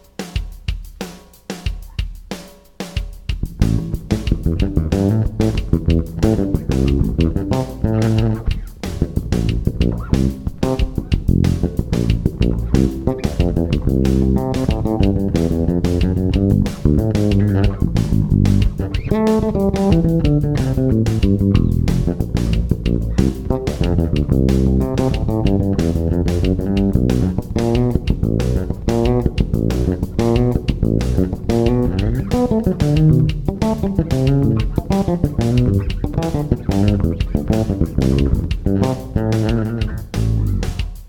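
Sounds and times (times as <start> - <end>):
electric bass guitar plucked phrases: 3.4 - 40.9.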